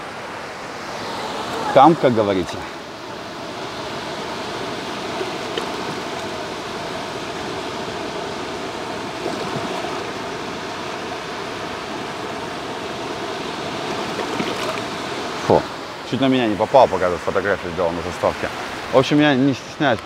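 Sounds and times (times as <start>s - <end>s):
small waves breaking: 0.0s - 20.0s.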